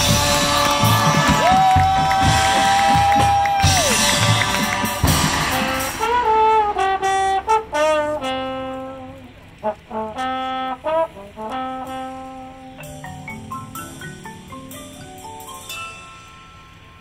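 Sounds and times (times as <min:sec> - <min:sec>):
solo trumpet melody: 0:00.0 - 0:17.0.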